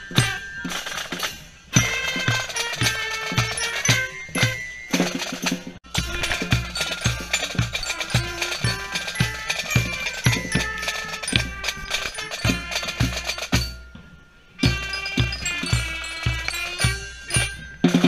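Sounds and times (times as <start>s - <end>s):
snare drums: 0.0s - 14.0s, 14.6s - 18.0s
high melody line: 0.0s - 18.0s.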